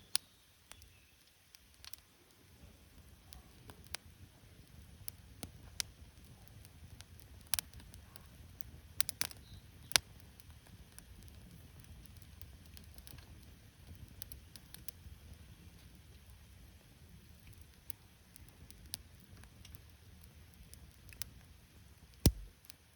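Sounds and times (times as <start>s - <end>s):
low steady fire rumble: 0.0s - 22.9s
campfire crackling and popping: 0.1s - 22.9s.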